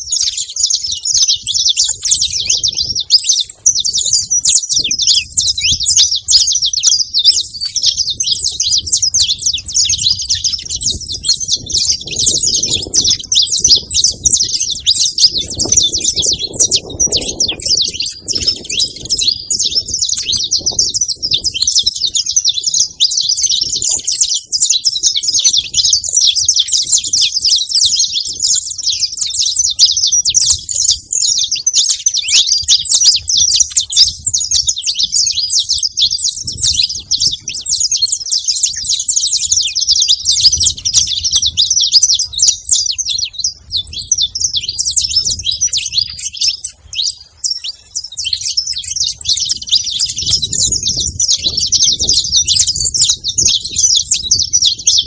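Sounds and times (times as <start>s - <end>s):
flock of finches chirping: 0.0s - 55.0s.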